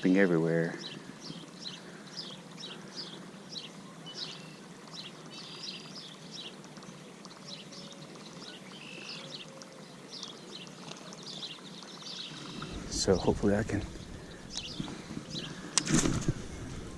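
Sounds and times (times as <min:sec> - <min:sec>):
birds chirping: 0:00.0 - 0:16.9
faint outdoor hiss: 0:00.0 - 0:16.9.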